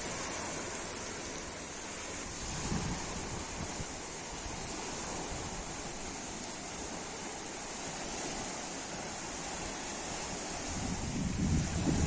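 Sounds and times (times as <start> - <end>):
small waves washing onto shore: 0.0 - 12.0
wind: 0.0 - 12.0.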